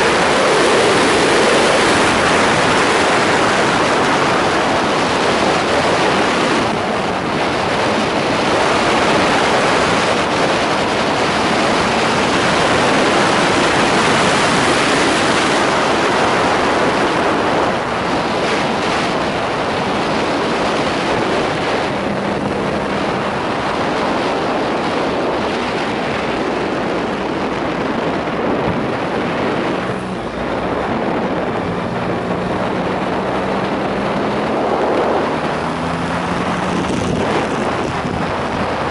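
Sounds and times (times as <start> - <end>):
motorcycle engine humming: 0.0 - 38.9
wind rushing over microphone: 0.0 - 38.9.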